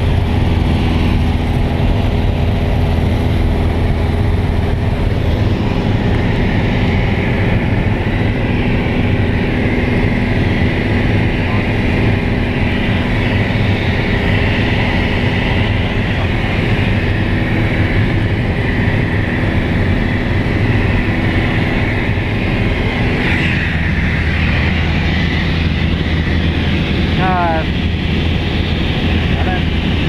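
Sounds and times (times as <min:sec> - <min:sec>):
light aircraft engine drone: 0:00.0 - 0:30.0.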